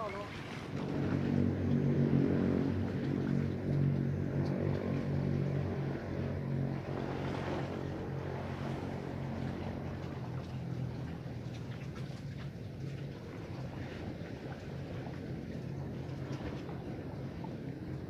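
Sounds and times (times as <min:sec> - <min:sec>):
motor engine running: 0:00.0 - 0:18.0.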